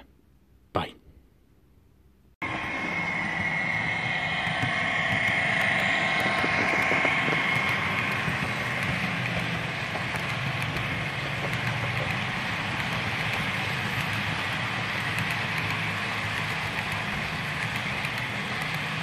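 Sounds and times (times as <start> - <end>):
model train motor whine: 2.4 - 19.0
wheels rumbling on rails: 2.4 - 19.0.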